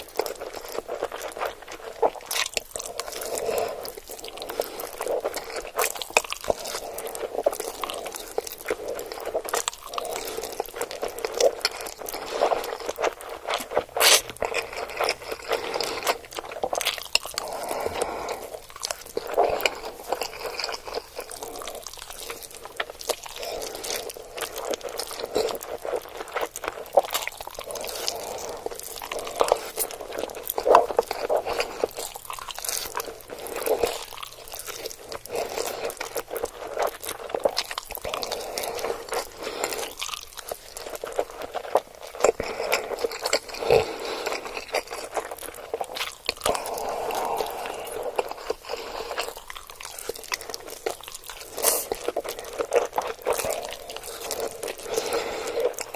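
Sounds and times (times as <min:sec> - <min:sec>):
mouth chewing and crunching: 0:00.0 - 0:55.9.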